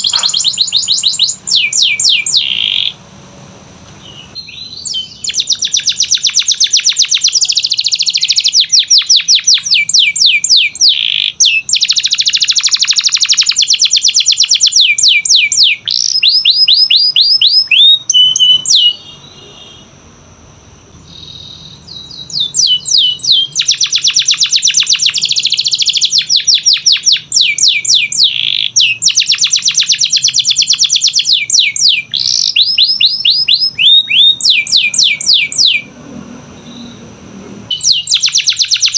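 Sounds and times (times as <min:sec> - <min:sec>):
canary singing in trills: 0:00.0 - 0:03.0, 0:04.0 - 0:20.0, 0:20.9 - 0:38.9.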